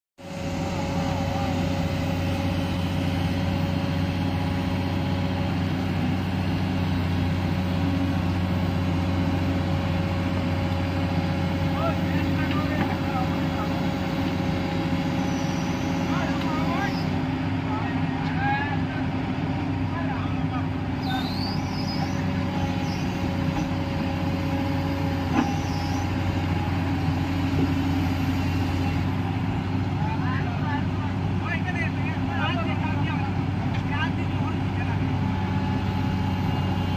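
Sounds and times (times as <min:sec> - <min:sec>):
excavator diesel engine humming: 0:00.2 - 0:36.9.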